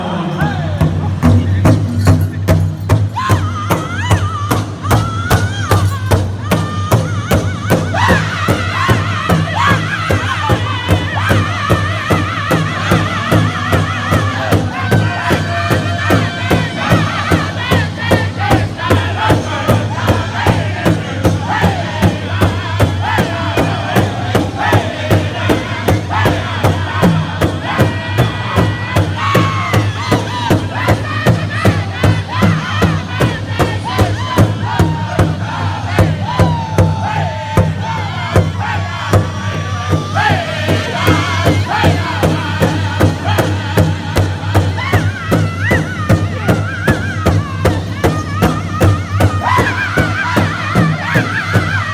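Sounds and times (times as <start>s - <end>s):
chorus of voices chanting: 0.0s - 1.5s, 3.1s - 51.9s
large drum beat: 0.0s - 51.9s.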